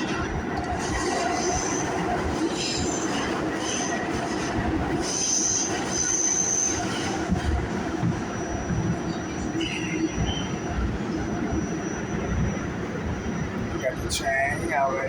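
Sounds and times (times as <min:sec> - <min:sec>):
train rumbling: 0:00.0 - 0:15.0
train wheels squealing: 0:00.7 - 0:13.9.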